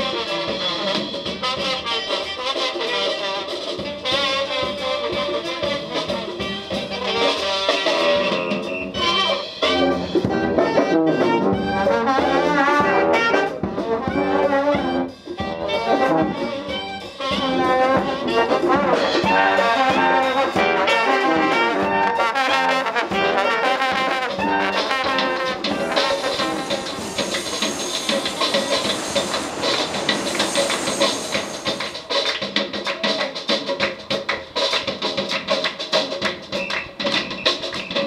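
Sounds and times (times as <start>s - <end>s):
saxophone: 0.0s - 32.2s
trombone: 0.0s - 32.4s
drum kit: 0.0s - 38.0s.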